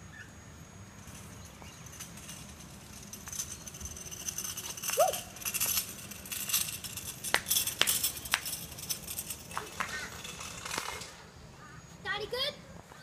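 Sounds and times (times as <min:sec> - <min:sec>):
scooter wheels rattling on asphalt: 0:00.6 - 0:12.6.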